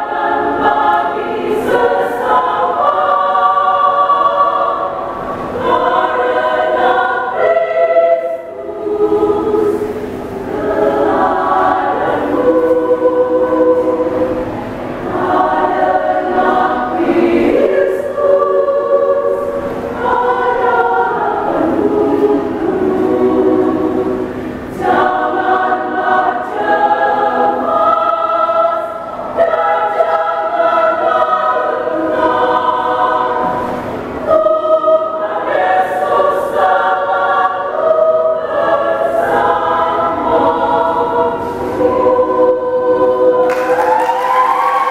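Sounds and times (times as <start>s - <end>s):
women's choir singing a hymn: 0.0s - 44.9s.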